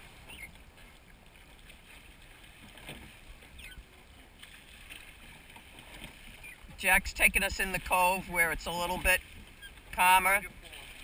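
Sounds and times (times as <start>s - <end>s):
water washing against hull: 0.0s - 11.0s.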